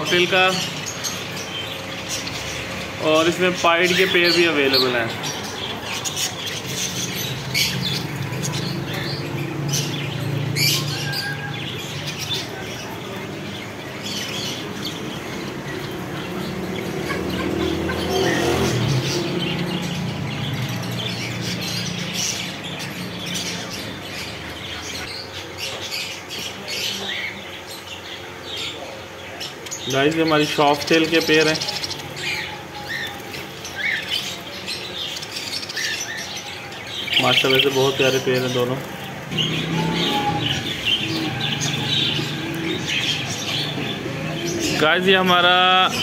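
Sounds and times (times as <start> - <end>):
caged birds chirping and squawking: 0.0 - 46.0.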